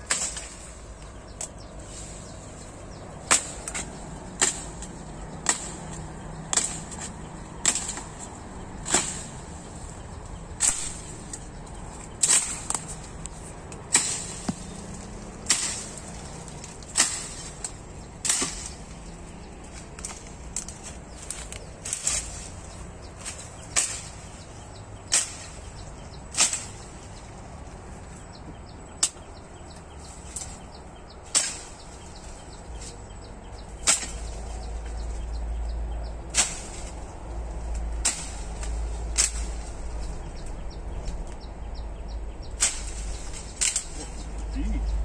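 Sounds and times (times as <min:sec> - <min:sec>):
machete chopping brush: 0:00.0 - 0:27.8, 0:29.9 - 0:35.4, 0:36.2 - 0:40.2, 0:42.5 - 0:44.7.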